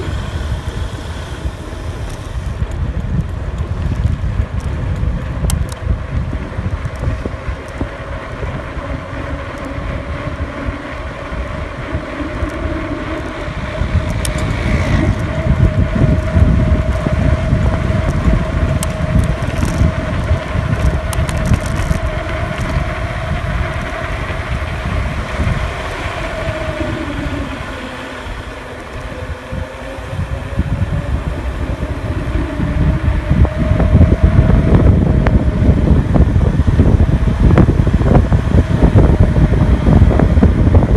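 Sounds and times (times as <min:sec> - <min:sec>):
steady hum: 0:00.0 - 0:40.9
wind buffeting microphone: 0:00.0 - 0:40.9.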